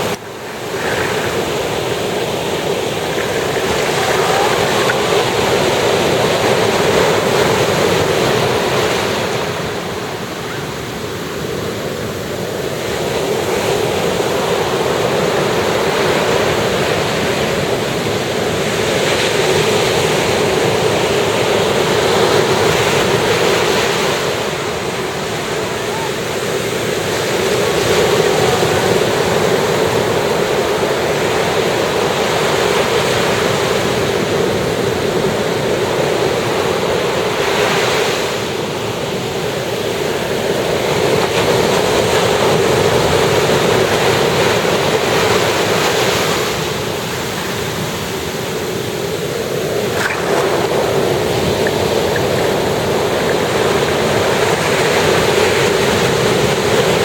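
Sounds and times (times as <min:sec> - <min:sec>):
sea waves washing onto beach: 0:00.0 - 0:57.0
wind on microphone: 0:00.0 - 0:57.0.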